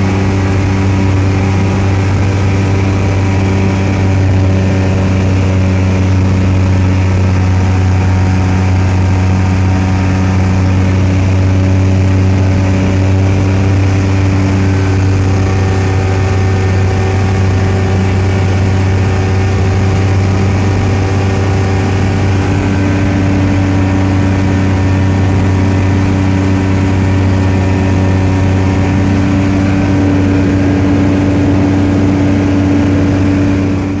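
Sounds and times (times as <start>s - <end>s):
light aircraft engine and propeller: 0.0s - 34.0s.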